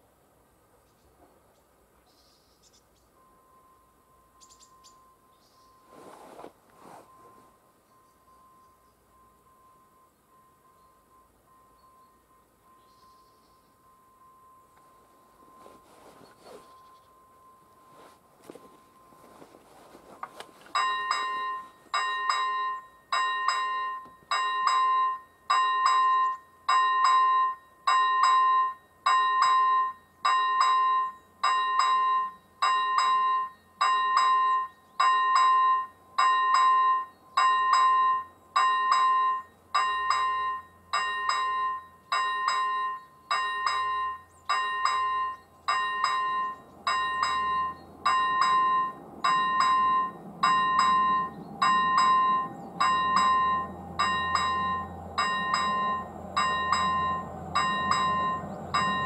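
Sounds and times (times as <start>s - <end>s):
level crossing warning bell: 3.1s - 6.0s, 6.9s - 59.0s.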